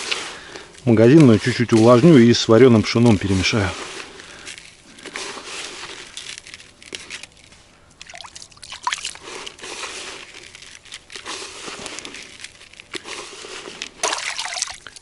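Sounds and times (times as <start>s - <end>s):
wet crunching and sloshing: 2.9s - 15.0s.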